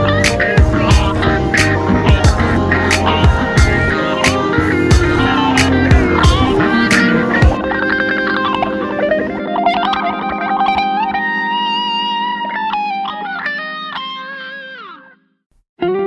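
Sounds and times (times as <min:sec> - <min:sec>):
electric guitar music: 0:00.0 - 0:16.0.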